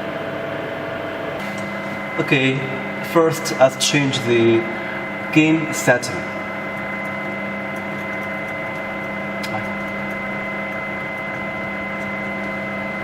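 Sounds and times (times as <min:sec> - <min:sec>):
steady hum with fixed tones: 0:00.0 - 0:13.0.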